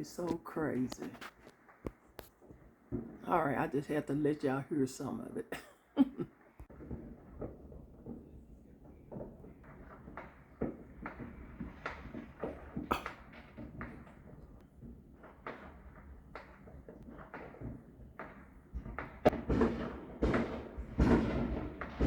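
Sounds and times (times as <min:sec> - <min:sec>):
muffled fireworks bangs and pops: 0:00.0 - 0:04.6, 0:05.5 - 0:22.0.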